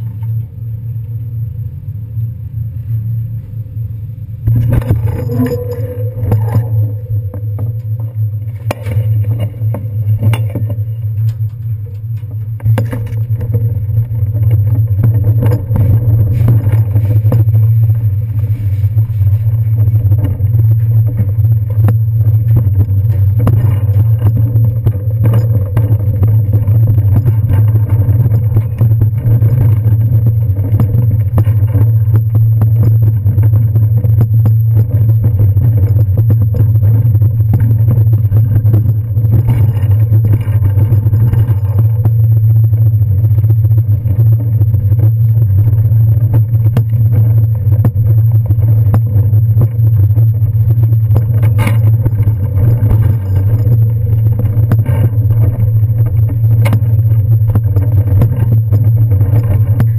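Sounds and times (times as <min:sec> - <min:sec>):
bicycle rattles and clicks: 0:04.5 - 0:59.9
bicycle wheels rumbling: 0:04.5 - 0:59.9.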